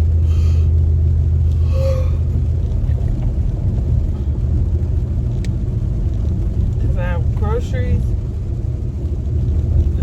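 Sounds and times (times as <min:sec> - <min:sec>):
car idling from inside cabin: 0:00.0 - 0:10.0.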